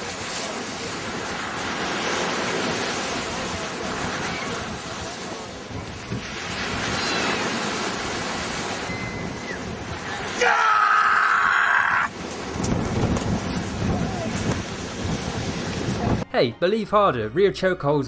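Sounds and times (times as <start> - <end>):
wind buffeting microphone: 0.0 - 10.5, 11.9 - 16.3
surf on a beach: 0.0 - 16.9.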